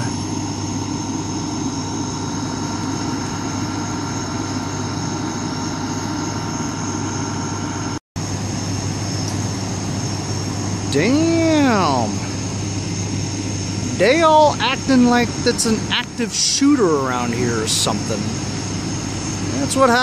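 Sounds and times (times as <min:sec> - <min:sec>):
fire engine idling: 0:00.0 - 0:20.0.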